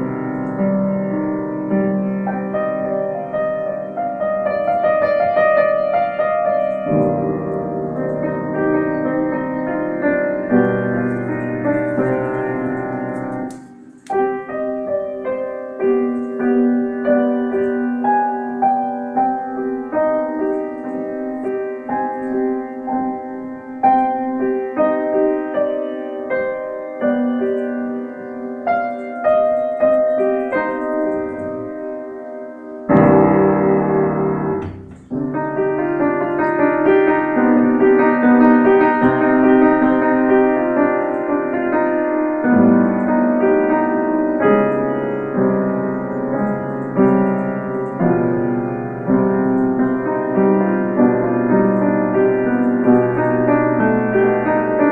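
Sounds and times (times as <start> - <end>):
loud low piano chord repeated: 0.0 - 54.9
slow solo piano melody: 0.0 - 54.9.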